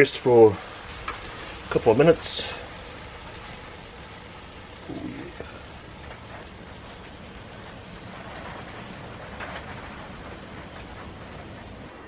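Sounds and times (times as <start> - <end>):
steaks sizzling in a frying pan: 0.0 - 9.8.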